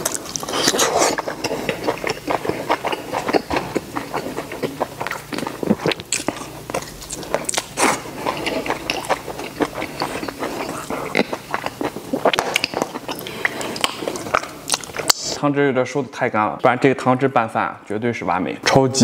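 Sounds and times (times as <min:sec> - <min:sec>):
chewing and lip-smacking: 0:00.0 - 0:15.4.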